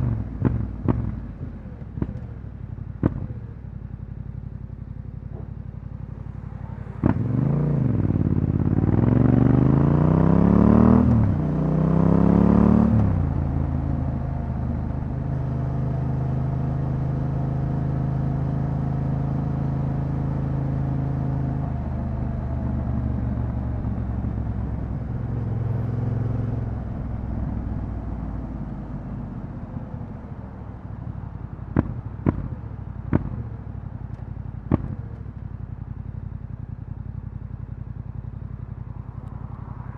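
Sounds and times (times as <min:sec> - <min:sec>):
motorcycle engine revving: 0:00.0 - 0:29.4, 0:31.1 - 0:39.9.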